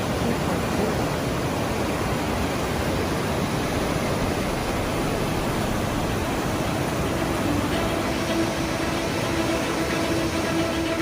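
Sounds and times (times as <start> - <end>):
rushing floodwater: 0.0 - 11.0.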